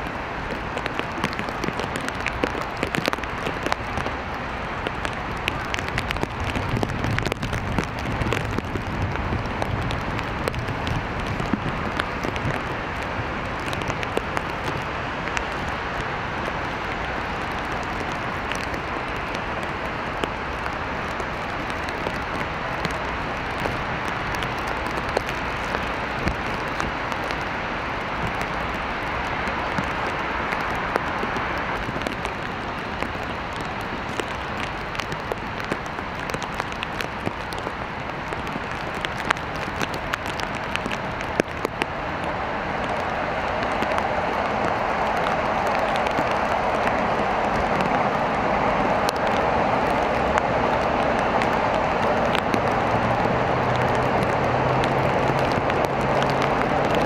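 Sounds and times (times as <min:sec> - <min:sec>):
steady rain on wet pavement: 0:00.0 - 0:57.0.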